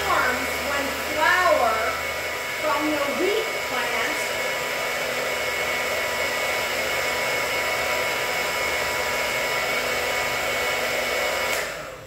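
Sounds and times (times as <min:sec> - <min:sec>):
blender motor whirring: 0:00.0 - 0:12.0.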